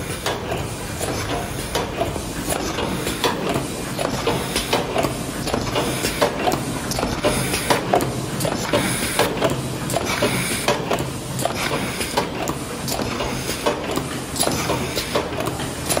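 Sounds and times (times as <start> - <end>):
machine moulds clacking: 0.0 - 16.0.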